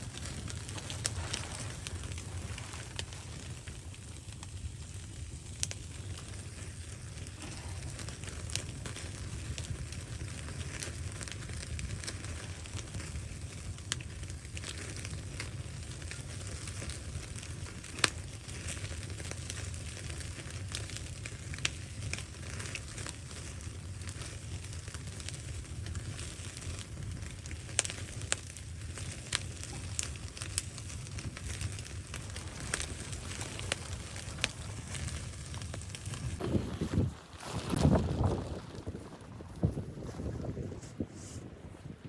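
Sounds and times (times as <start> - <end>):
fire popping sharply: 0.0 - 40.4
wood fire crackling: 0.0 - 42.0.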